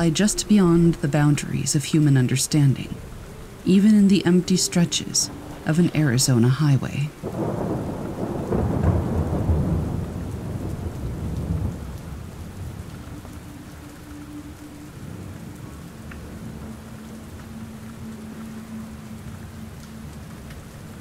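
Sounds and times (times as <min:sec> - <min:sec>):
steady rainfall: 0:00.0 - 0:21.0
thunder rumbling: 0:00.0 - 0:21.0.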